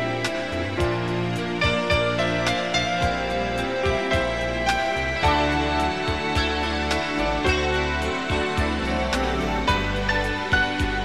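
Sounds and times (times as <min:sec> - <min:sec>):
bass line: 0:00.0 - 0:11.0
sustained melodic notes: 0:00.0 - 0:11.0.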